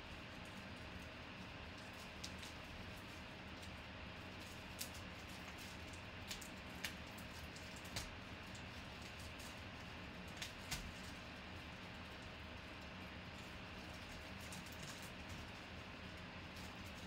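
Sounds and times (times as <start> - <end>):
bubble wrap crackling: 0.2 - 12.3, 13.4 - 17.0.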